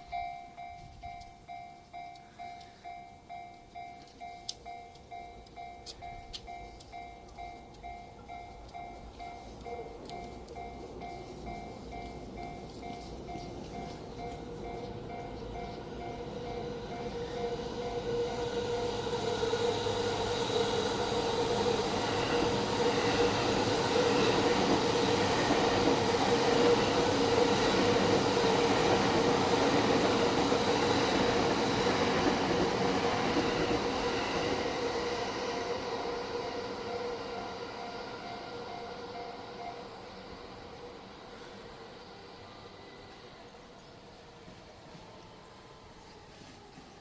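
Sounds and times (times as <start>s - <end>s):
crossing warning bell ringing: 0.0s - 43.2s
electric train passing: 0.0s - 47.0s.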